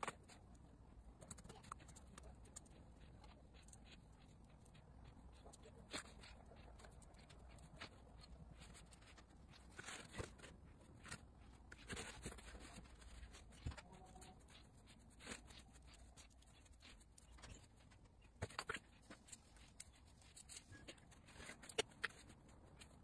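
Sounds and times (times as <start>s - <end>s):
faint clicks and rustles: 0.0s - 23.0s.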